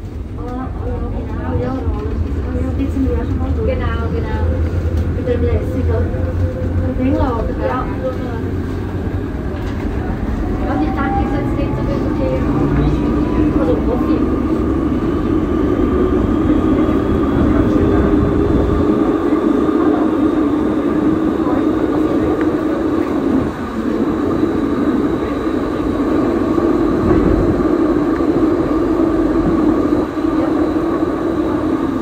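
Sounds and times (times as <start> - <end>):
tram running on rails: 0.0 - 32.0.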